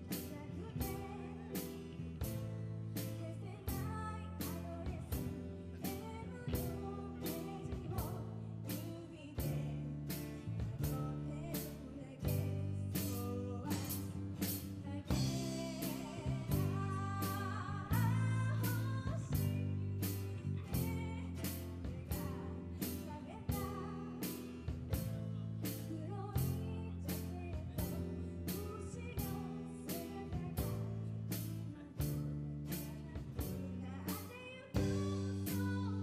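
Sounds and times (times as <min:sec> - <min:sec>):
bass guitar: 0:00.0 - 0:36.0
person singing: 0:00.0 - 0:36.0.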